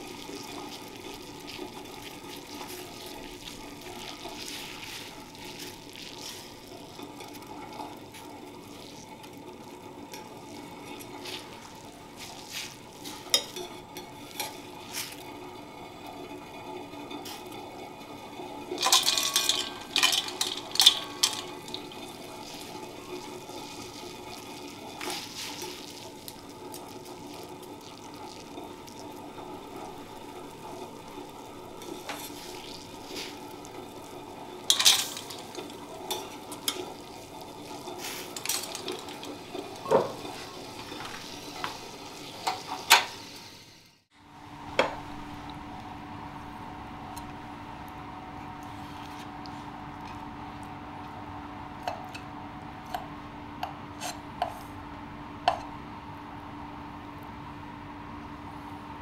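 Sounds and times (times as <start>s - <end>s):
water boiling in a saucepan: 0.0s - 59.0s.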